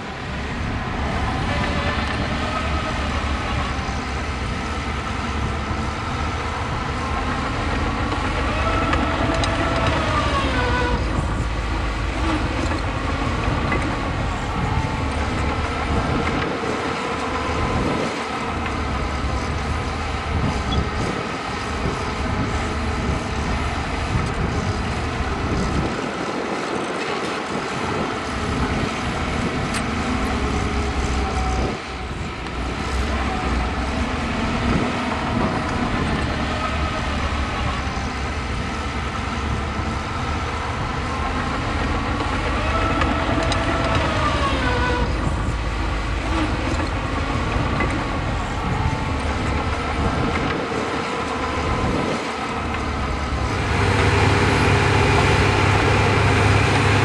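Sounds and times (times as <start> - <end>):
diesel construction machinery rumbling: 0.0 - 57.0.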